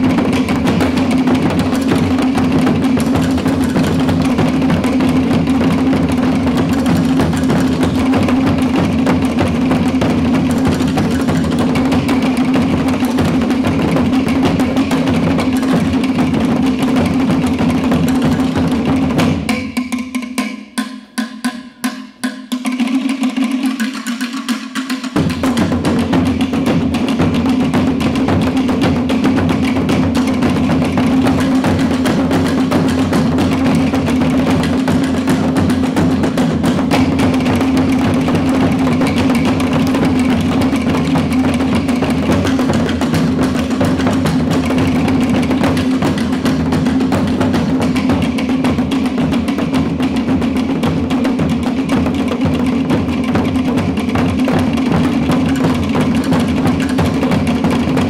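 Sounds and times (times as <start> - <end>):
deep drum beat: 0.0 - 20.4, 25.1 - 58.0
slit-log drums clattering: 0.0 - 58.0.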